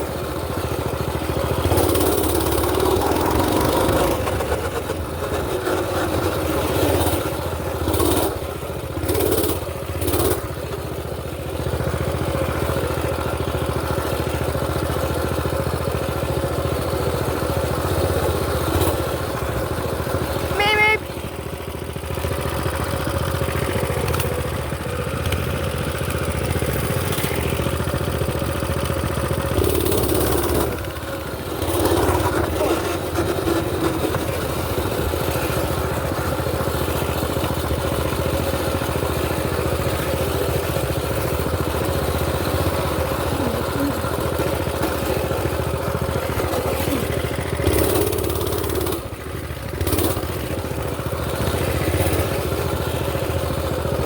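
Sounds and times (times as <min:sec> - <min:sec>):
mini bike engine running: 0:00.0 - 0:54.0.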